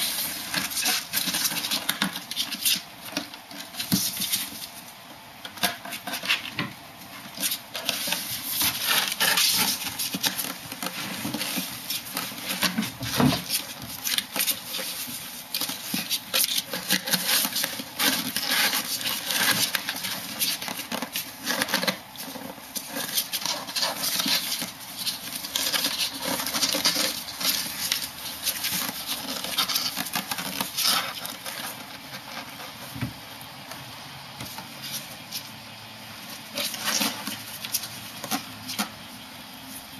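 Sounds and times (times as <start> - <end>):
animals scuffling: 0.0 - 5.0, 5.6 - 39.9
claws scrabbling on cardboard: 0.0 - 35.6, 36.2 - 39.9.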